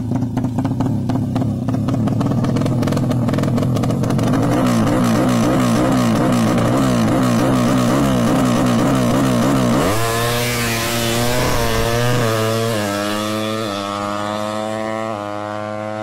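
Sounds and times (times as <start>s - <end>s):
motorcycle engine revving and accelerating: 0.0s - 16.0s.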